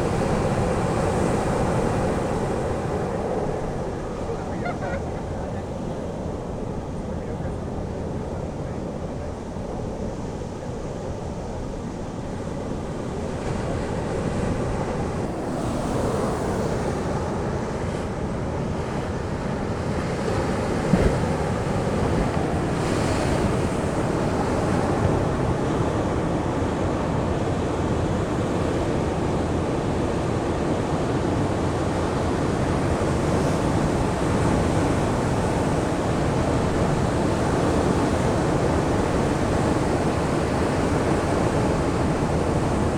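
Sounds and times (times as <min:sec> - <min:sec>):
ocean surf washing onto beach: 0:00.0 - 0:42.9.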